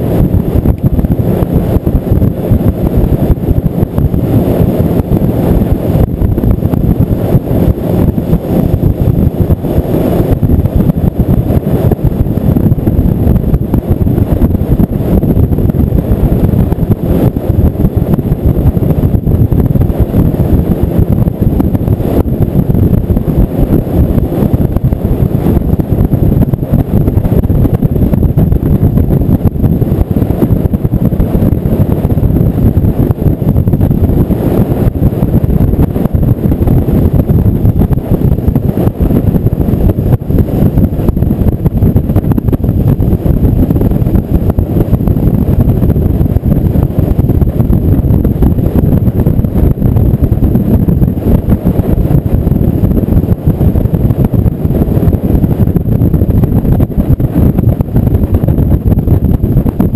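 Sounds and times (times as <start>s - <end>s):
motorboat rumble: 0.0s - 59.9s.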